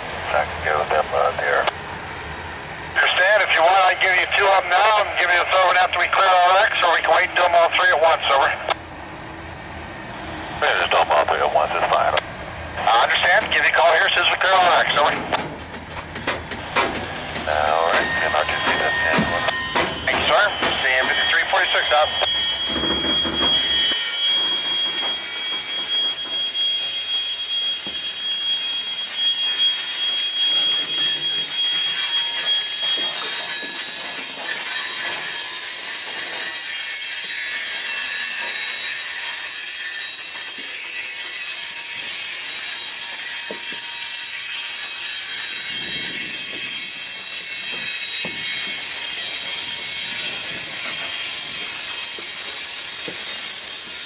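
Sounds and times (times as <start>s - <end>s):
train cars rolling on rails: 0.0s - 54.0s
wheels squealing on rail: 9.3s - 54.0s.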